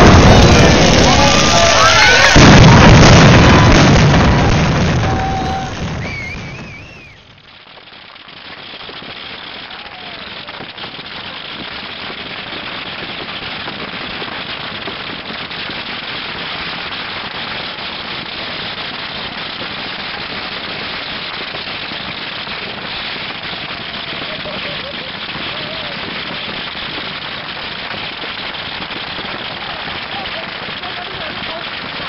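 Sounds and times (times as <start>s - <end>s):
firework rockets crackling: 0.0s - 32.0s.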